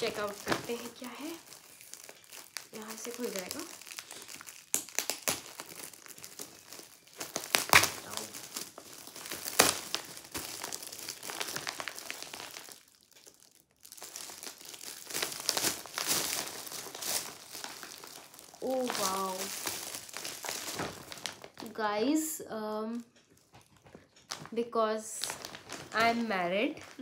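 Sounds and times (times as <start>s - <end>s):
foil gift wrap crinkling: 0.0s - 27.0s.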